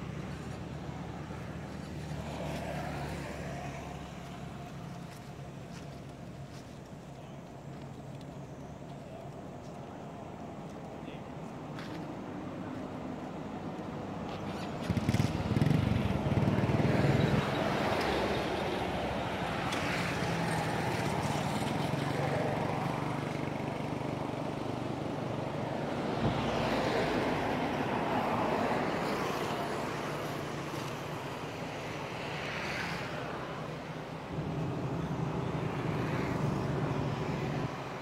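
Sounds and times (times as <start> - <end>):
traffic passing: 0.0 - 38.0.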